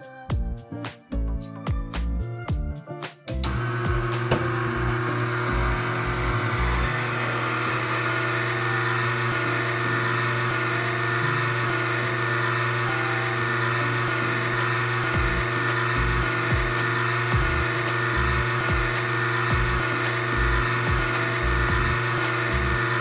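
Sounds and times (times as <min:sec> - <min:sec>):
blender motor running: 0:03.3 - 0:23.0.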